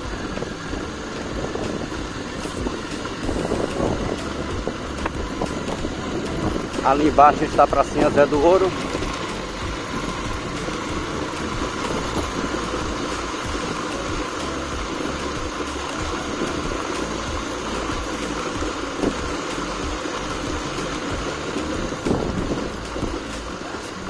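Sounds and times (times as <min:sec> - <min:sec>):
road noise: 0:00.0 - 0:24.0
vehicle engine running: 0:00.0 - 0:24.0.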